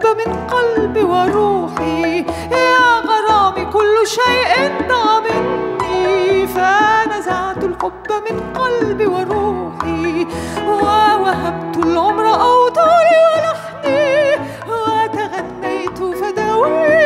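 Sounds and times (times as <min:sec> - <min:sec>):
instrumental accompaniment with bass: 0:00.0 - 0:17.0
woman singing with vibrato: 0:00.0 - 0:17.0.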